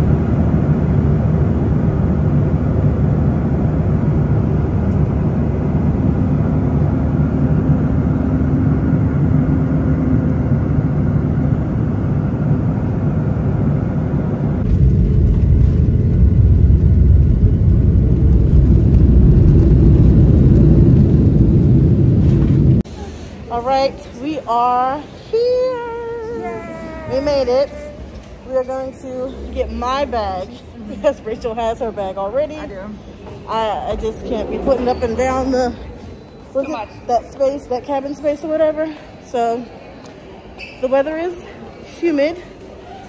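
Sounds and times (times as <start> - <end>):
deep engine rumble: 0.0 - 25.1, 26.1 - 36.6
airliner cabin drone: 0.0 - 37.8.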